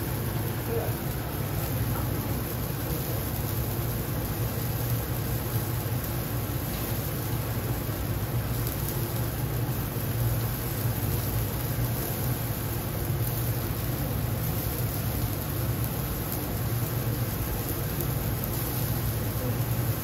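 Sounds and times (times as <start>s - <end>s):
gas grill hum and hiss: 0.0s - 20.0s.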